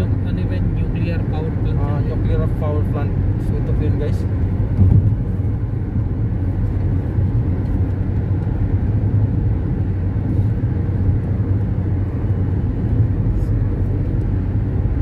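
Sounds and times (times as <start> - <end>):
car driving on highway: 0.0 - 15.0.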